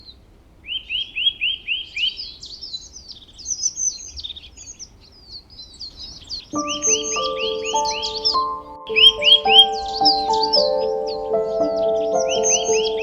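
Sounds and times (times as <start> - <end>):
birds chirping and twittering: 0.7 - 13.0.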